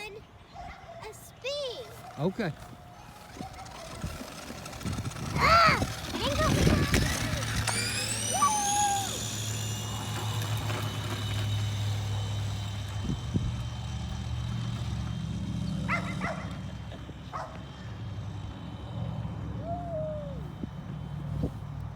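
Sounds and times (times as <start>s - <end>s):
electric scooter motor humming: 0.0s - 21.9s.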